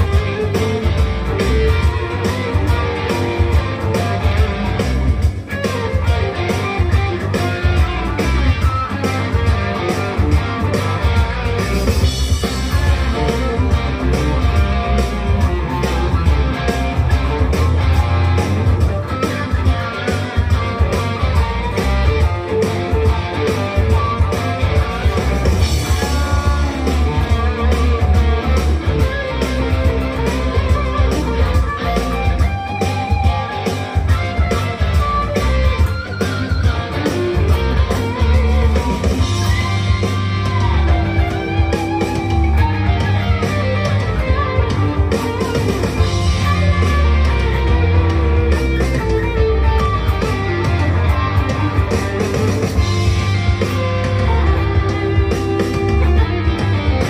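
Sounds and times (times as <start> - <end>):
blues-rock backing track: 0.0 - 57.0
electric guitar lead lines: 0.0 - 57.0.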